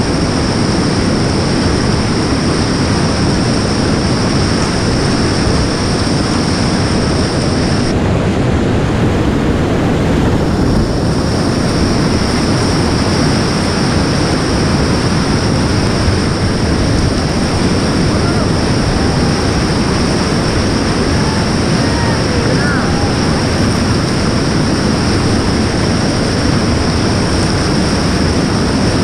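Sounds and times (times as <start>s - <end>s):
whitewater rapids roaring: 0.0s - 29.0s.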